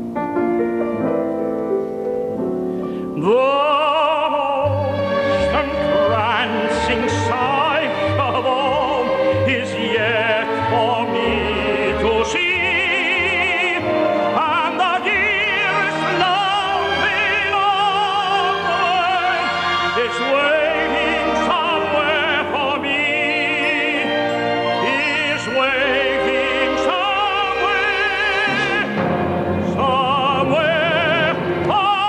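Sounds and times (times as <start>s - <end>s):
operatic music with orchestra: 0.0s - 32.0s.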